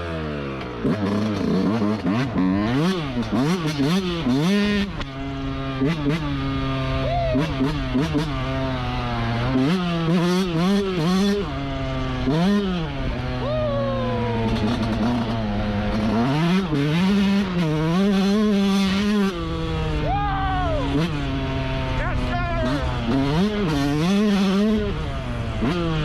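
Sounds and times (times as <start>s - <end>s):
two-stroke dirt bike engine revving: 0.0s - 26.0s.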